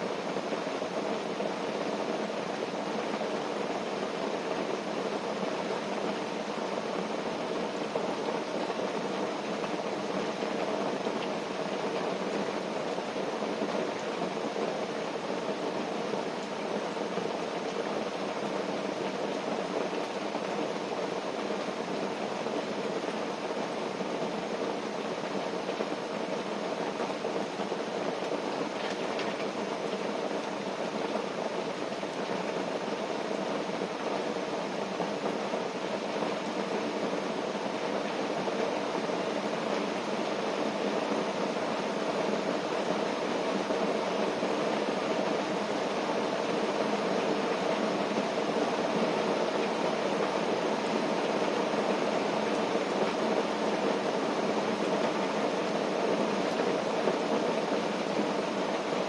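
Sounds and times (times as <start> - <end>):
rain pattering on tent: 0.0 - 59.0.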